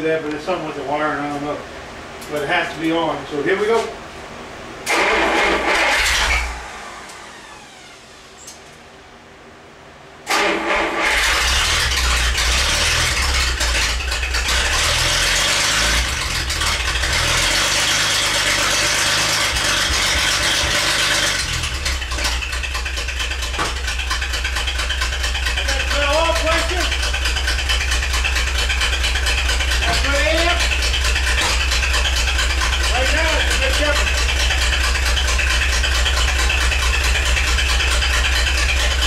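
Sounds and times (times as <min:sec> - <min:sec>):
car engine starting and revving: 0:04.8 - 0:08.6, 0:10.2 - 0:39.0.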